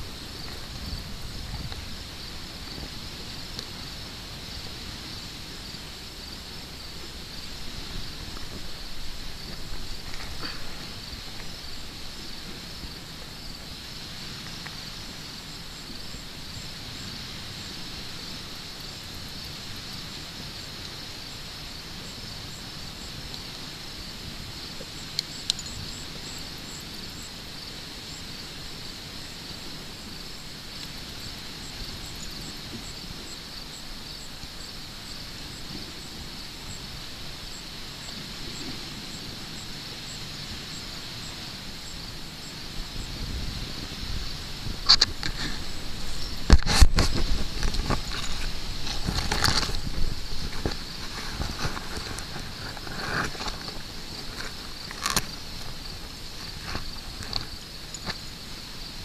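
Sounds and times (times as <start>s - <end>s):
insect chirping: 0.0s - 59.0s
insects trilling: 0.0s - 59.0s.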